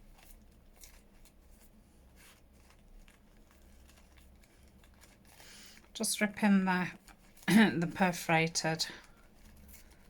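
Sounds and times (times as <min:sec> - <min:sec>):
low room hum: 0:00.0 - 0:10.0
paper rustling: 0:00.0 - 0:10.0.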